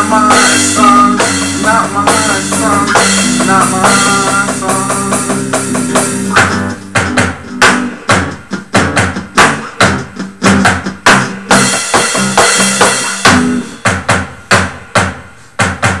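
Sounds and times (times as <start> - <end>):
acoustic bass guitar: 0.0 - 14.7
drums keeping a beat: 0.0 - 16.0.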